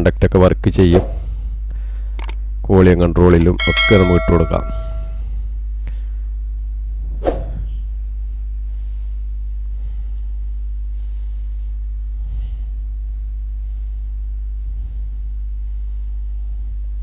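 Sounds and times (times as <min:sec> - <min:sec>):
low mains hum: 0:00.0 - 0:17.0.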